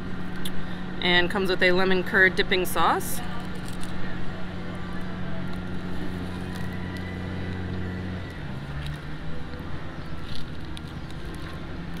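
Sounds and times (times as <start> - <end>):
low engine-like hum: 0.0 - 12.0
outdoor background noise: 0.0 - 12.0.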